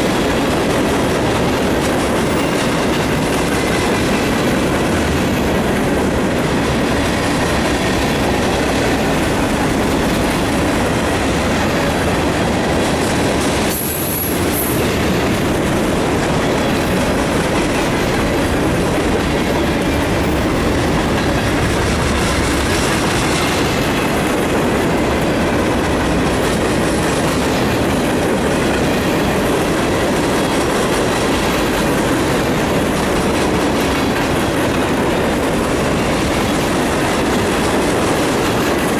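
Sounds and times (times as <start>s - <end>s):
steel train wheels on rails: 0.0s - 38.9s.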